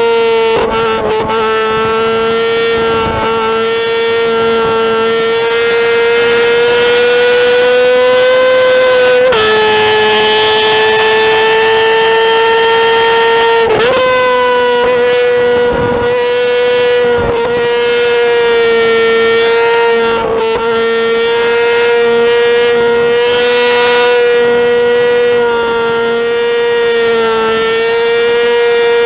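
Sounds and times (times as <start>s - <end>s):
motorcycle engine revving high: 0.0s - 29.0s.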